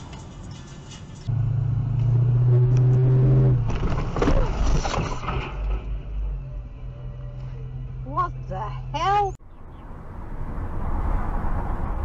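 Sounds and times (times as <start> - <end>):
road noise inside moving car: 0.0 - 12.0.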